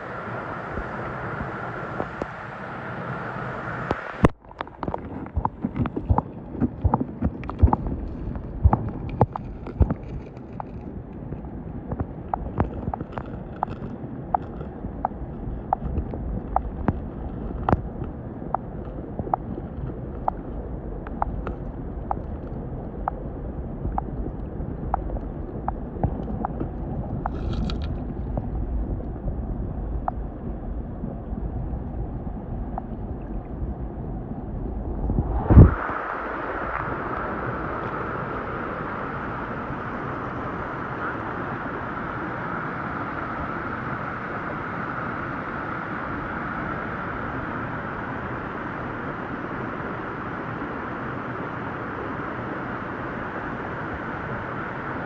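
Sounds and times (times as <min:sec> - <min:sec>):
underwater stream rumble: 0:00.0 - 0:55.0.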